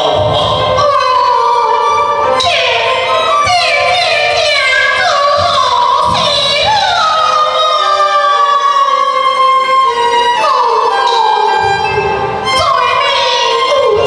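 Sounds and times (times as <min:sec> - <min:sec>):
high voice singing opera: 0:00.0 - 0:14.0
instrumental accompaniment: 0:00.0 - 0:14.0.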